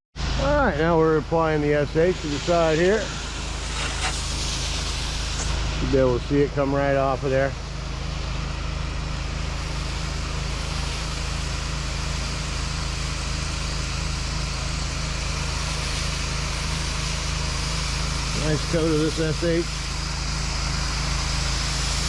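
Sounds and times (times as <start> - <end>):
pressure washer engine running: 0.2 - 22.0
water spraying hiss: 0.2 - 22.0.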